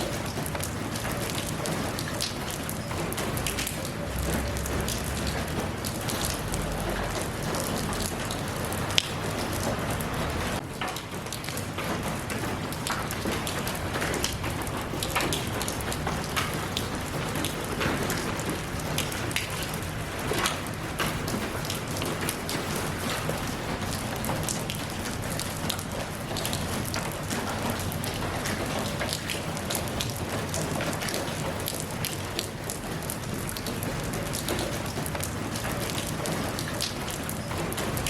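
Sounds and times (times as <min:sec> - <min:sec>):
rain ticking on a hard surface: 0:00.0 - 0:38.0.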